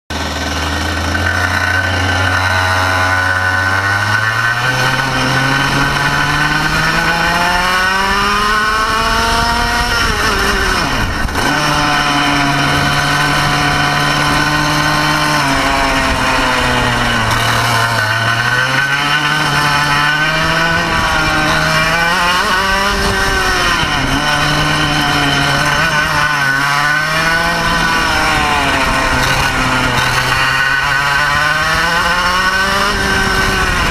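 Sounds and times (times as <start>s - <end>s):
racing kart engine revving: 0.1s - 33.9s.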